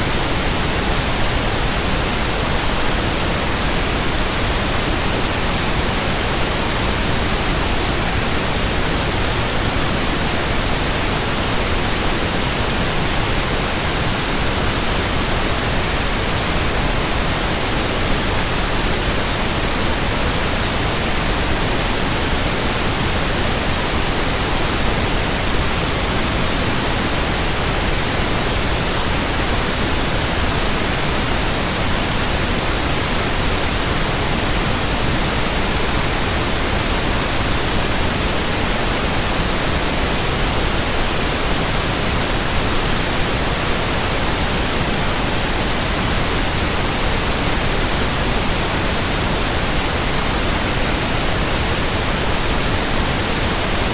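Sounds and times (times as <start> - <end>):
steady white noise hiss: 0.0 - 53.9.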